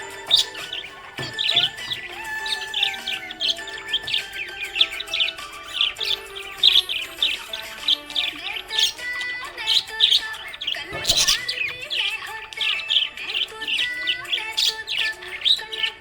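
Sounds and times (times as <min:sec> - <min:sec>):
budgerigars chirping and twittering: 0:00.0 - 0:16.0.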